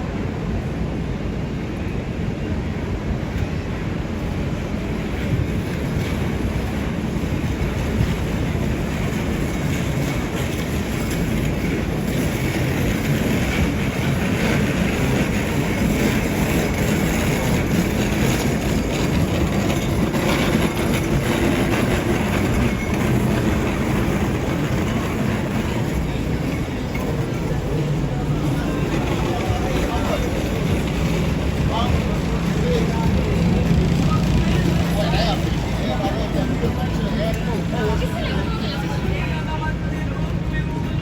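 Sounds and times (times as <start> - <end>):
vehicle rumble: 0.0 - 41.0.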